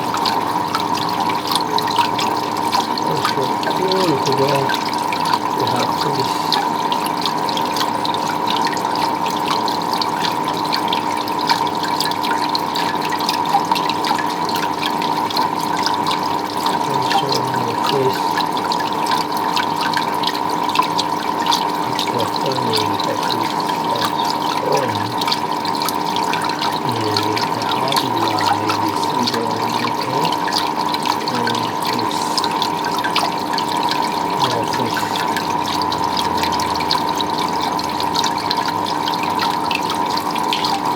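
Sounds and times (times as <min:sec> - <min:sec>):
two-tone steady hum: 0:00.0 - 0:11.0, 0:16.6 - 0:19.2, 0:21.0 - 0:40.9
water running and splashing: 0:00.0 - 0:40.9.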